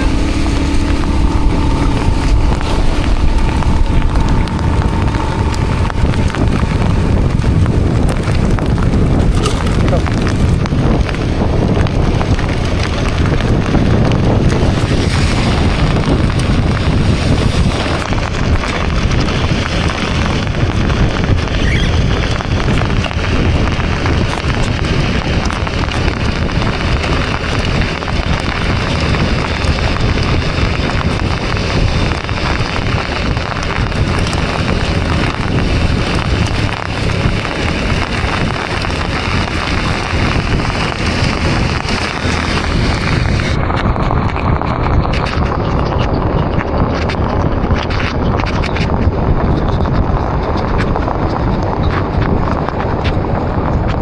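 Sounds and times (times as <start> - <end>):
heavy rain falling: 0.0 - 54.0
low rumble: 0.0 - 54.0.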